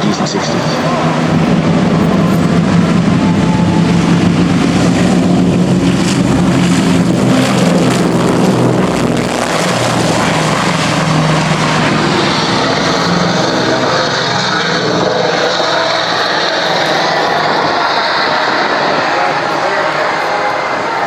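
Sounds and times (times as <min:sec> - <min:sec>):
propeller plane droning overhead: 0:00.0 - 0:21.0.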